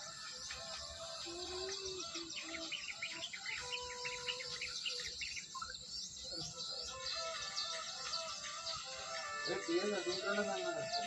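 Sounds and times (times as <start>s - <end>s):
small birds chirping chorus: 0.0s - 11.0s.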